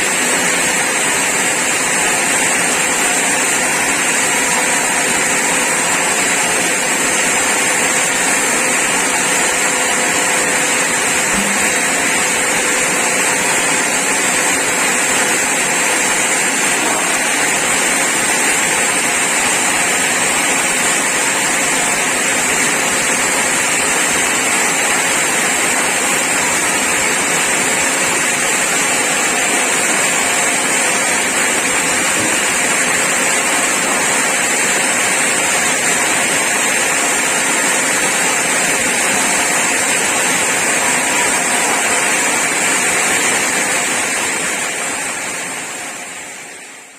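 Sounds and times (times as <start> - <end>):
sawmill saw running: 0.0 - 46.7.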